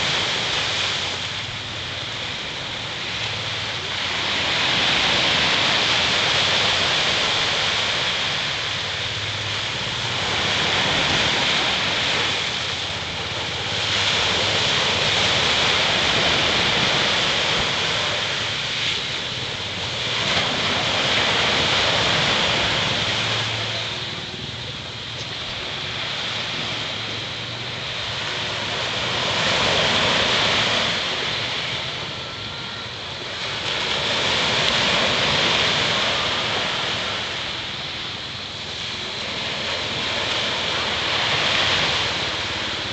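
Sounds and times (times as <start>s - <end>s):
sea waves breaking on a beach: 0.0s - 42.9s.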